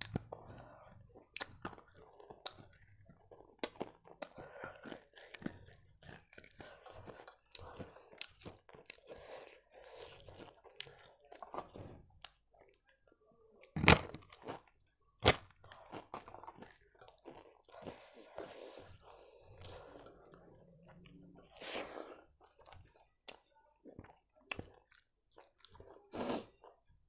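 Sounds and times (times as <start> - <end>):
crisp food crunching: 0.0 - 12.8, 13.7 - 26.8
person chewing: 0.0 - 12.8, 13.7 - 26.8.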